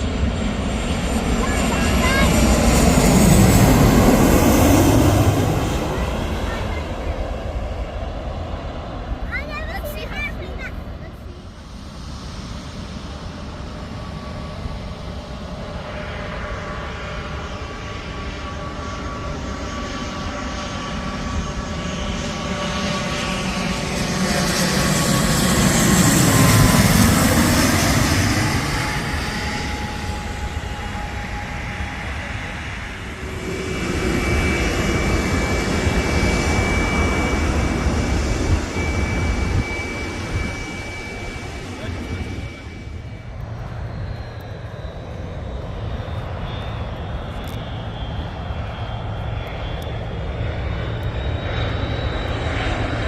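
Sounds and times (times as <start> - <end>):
jet airliner passing overhead: 0.0 - 53.0.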